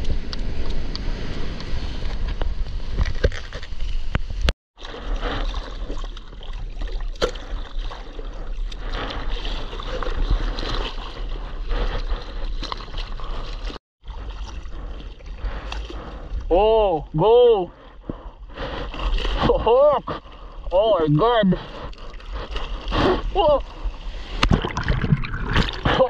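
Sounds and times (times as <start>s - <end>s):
water splashing and rushing: 0.0s - 17.6s, 18.5s - 26.0s.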